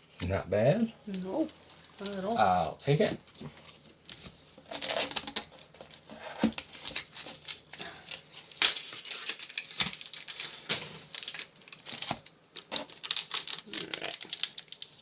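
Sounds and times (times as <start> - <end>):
foil wrapper crinkling: 1.1 - 2.6, 3.3 - 15.0.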